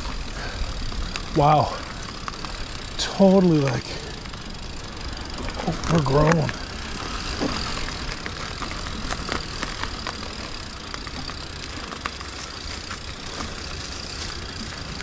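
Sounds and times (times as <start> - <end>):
bike tyres rumbling on trail: 0.0 - 15.0
twigs snapping against bike: 0.0 - 15.0.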